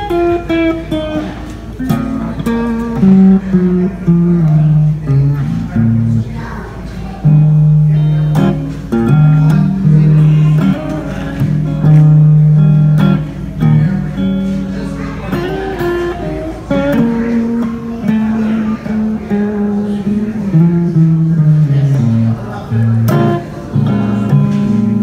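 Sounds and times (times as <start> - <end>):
electric guitar melody: 0.0 - 25.0.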